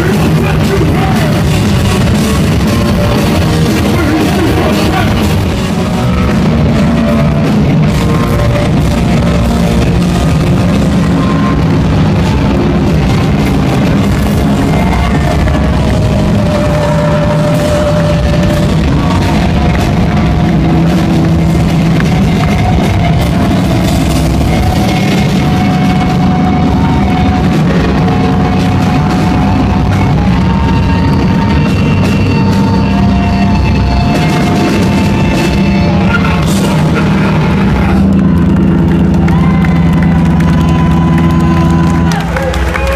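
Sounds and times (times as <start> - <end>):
bass guitar: 0.0 - 42.9
distorted electric guitar: 0.0 - 42.9
drums: 0.0 - 42.9.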